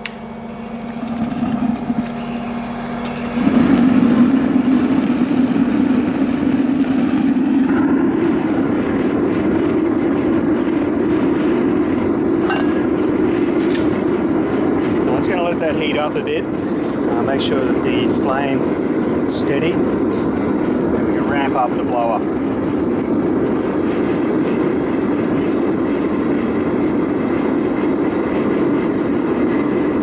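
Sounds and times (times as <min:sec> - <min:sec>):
blower hum: 0:00.0 - 0:30.0
burner flame rushing: 0:00.0 - 0:30.0.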